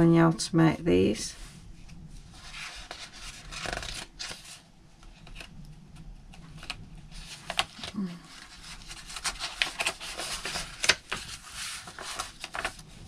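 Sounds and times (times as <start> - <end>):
paper rustling: 2.2 - 13.0.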